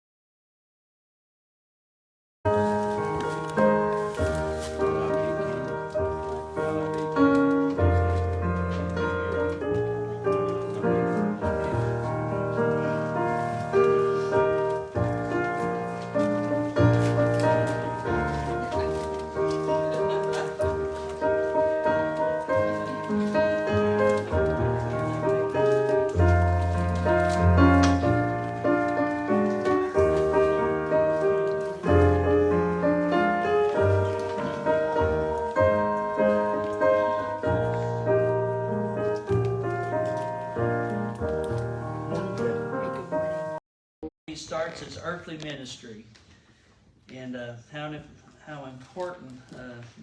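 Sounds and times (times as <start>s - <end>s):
piano playing slow chords: 2.5s - 43.6s.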